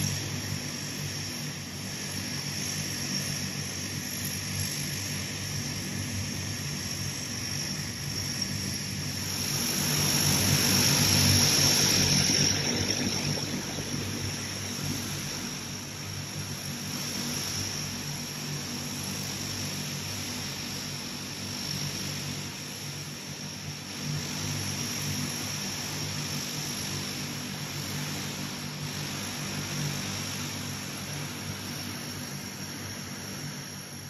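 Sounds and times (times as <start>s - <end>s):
high turbine whine: 0.0s - 34.0s
turboprop engines droning: 0.0s - 34.0s.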